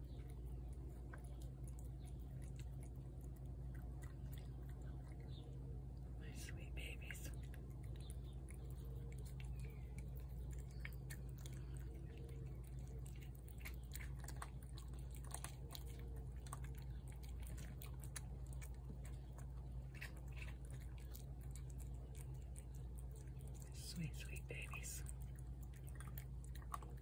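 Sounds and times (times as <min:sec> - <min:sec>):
cat chewing wet food: 0:00.0 - 0:27.0.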